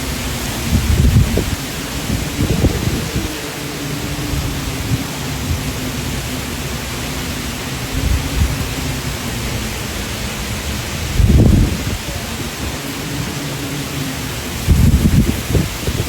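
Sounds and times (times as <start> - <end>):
heavy rain: 0.0 - 16.0
wind gusts buffeting microphone: 0.0 - 16.0.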